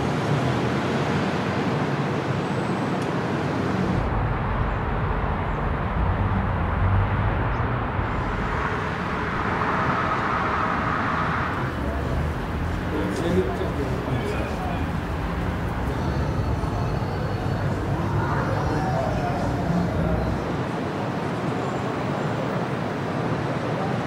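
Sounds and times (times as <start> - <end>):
city street traffic noise: 0.0 - 24.0.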